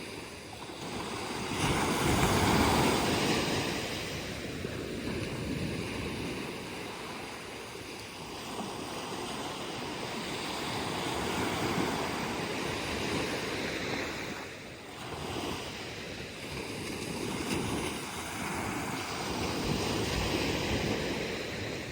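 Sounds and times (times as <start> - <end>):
wind buffeting microphone: 0.0 - 14.4, 15.1 - 21.9
ocean waves breaking on beach: 0.0 - 21.9.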